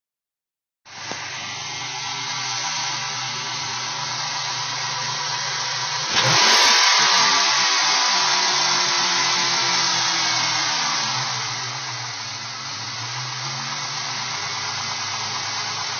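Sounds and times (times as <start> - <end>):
car engine idling: 0.9 - 15.9.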